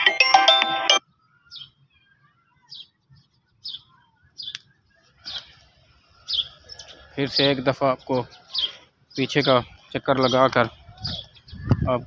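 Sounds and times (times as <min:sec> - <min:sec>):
small birds chirping: 0:01.1 - 0:12.0.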